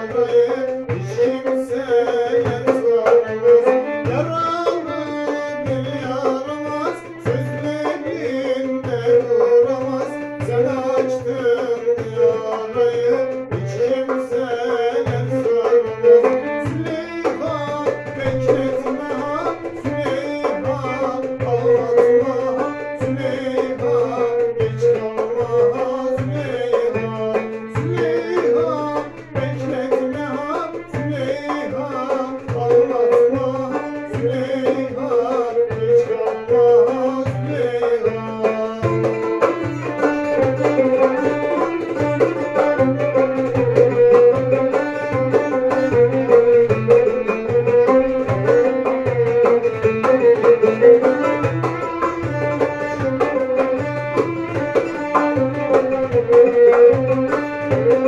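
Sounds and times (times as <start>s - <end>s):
banjo strumming: 0.0s - 58.0s
darbuka beat: 0.0s - 58.0s
violin melody: 0.0s - 58.0s.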